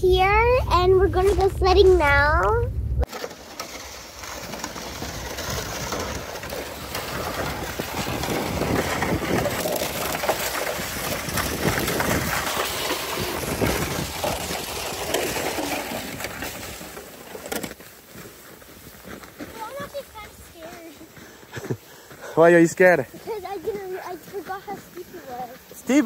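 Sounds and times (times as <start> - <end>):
footsteps crunching in snow: 1.0 - 2.5, 3.2 - 26.0
plastic sled scraping over snow: 3.0 - 26.0.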